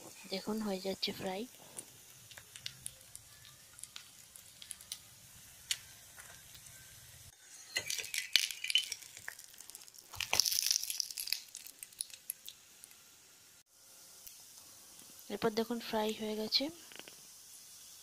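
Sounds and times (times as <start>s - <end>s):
oil sizzling and popping: 0.0s - 18.0s.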